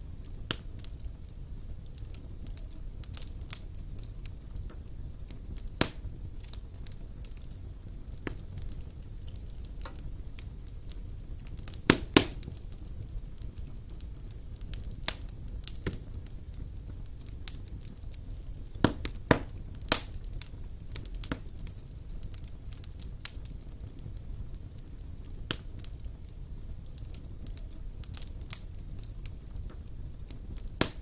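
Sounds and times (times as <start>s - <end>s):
fire flames rumbling: 0.0s - 31.0s
wood fire crackles and pops: 0.0s - 31.0s.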